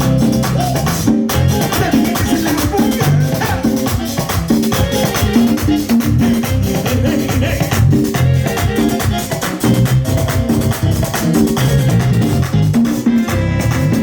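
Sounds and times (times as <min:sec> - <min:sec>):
merengue band playing: 0:00.0 - 0:14.0
rattling percussion: 0:00.0 - 0:14.0.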